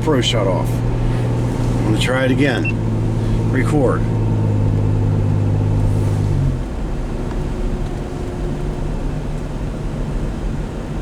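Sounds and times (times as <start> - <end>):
loud low hum: 0.0 - 9.2
road noise: 0.0 - 11.0
vehicle engine rumble: 0.0 - 11.0.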